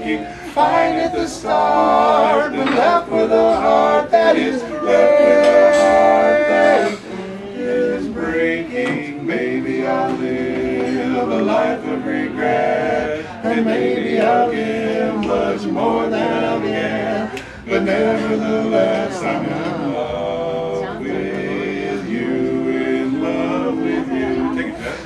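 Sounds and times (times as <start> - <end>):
men singing a cappella: 0.0 - 25.0.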